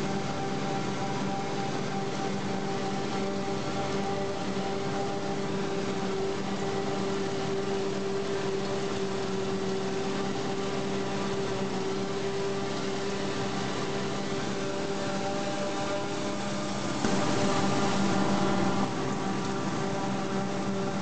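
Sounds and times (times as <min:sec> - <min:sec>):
constant humming tone: 0:00.0 - 0:21.0
forage harvester engine and chopping: 0:00.0 - 0:21.0.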